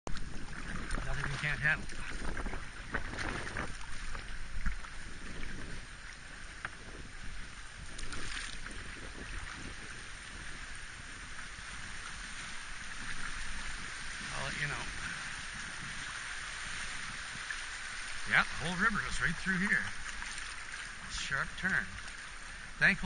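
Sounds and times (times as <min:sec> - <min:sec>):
wind rumbling on microphone: 0:00.1 - 0:23.0
river water rushing: 0:00.2 - 0:23.0.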